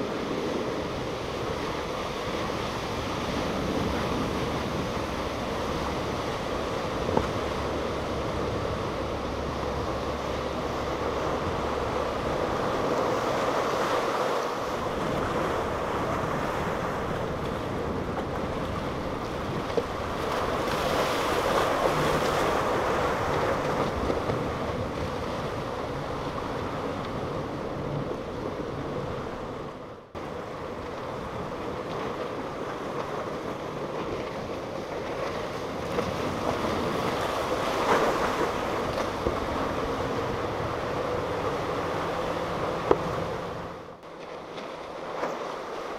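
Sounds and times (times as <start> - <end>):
boat engine drone: 0.0 - 45.9
wake spray and waves: 0.0 - 45.9
wind buffeting microphone: 0.0 - 45.9.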